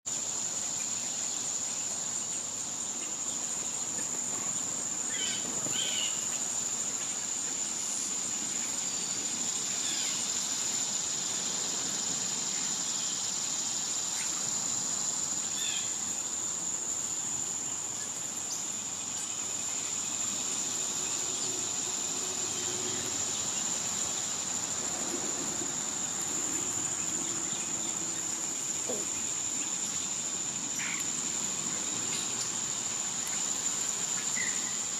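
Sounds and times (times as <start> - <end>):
cicadas droning: 0.0 - 34.9.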